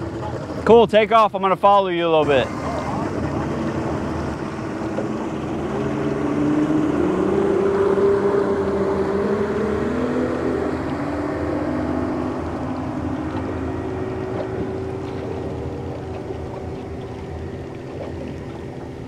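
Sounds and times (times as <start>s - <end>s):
outboard boat engines running: 0.0s - 19.0s
water rushing: 0.0s - 19.0s
wind: 0.0s - 19.0s.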